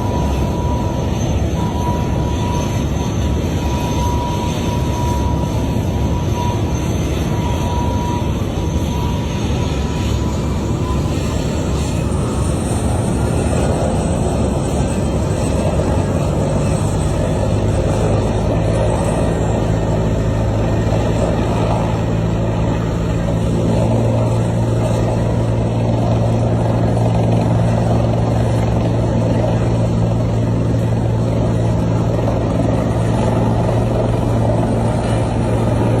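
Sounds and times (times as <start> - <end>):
heavy machinery droning: 0.0 - 36.0.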